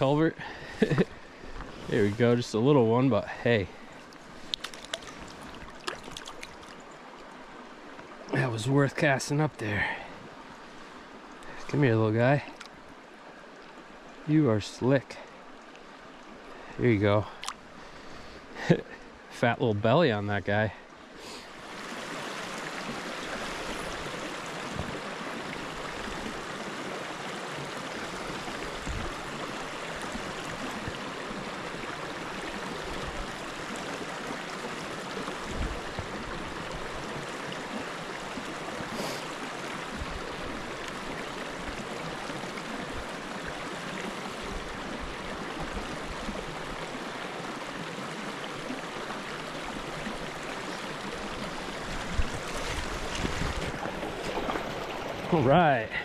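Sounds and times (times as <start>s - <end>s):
stream rushing over rocks: 0.0s - 10.4s, 21.1s - 56.0s.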